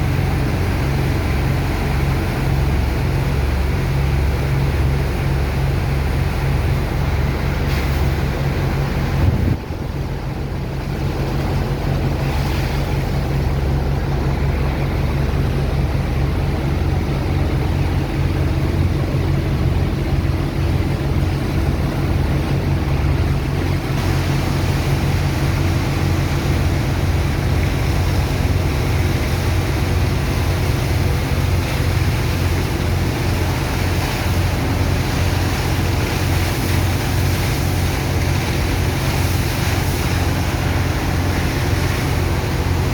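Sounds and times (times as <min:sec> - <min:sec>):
pump engine humming: 0:00.0 - 0:42.9
rushing water and sand slurry: 0:00.0 - 0:42.9.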